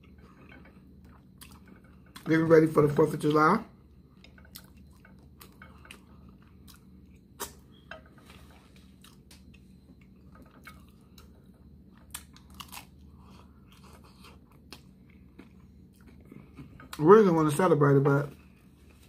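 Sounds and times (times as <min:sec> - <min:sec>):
chewing crunchy tacos: 0:00.0 - 0:02.5, 0:04.1 - 0:17.0.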